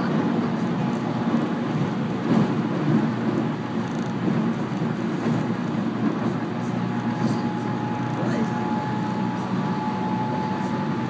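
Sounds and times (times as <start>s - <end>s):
train cabin rumble: 0.0s - 11.0s.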